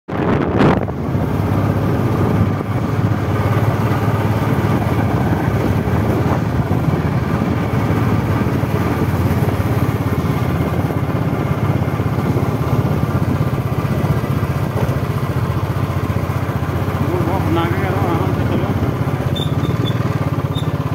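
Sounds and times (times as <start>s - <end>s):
road and wind noise: 0.1s - 20.9s
vehicle engine running: 0.2s - 20.9s.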